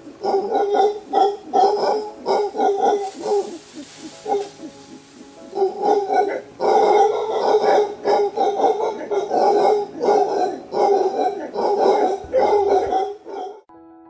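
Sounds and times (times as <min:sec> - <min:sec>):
howler monkeys roaring: 0:00.0 - 0:13.6.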